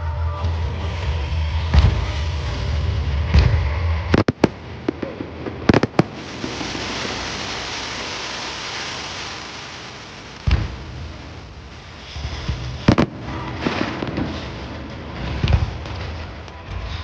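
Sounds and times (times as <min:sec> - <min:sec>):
crackling hiss of fireworks: 0:00.0 - 0:17.0
low rumble: 0:00.0 - 0:17.0
firework bangs: 0:01.7 - 0:17.0.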